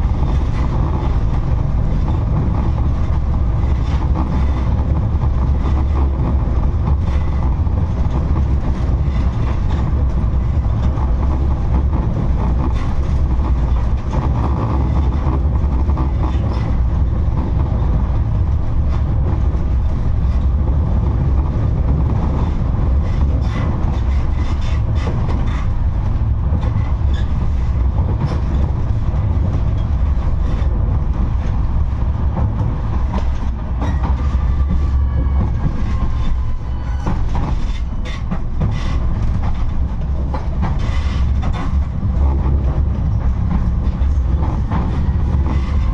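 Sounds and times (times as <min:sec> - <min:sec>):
tram rumbling along track: 0:00.0 - 0:45.9.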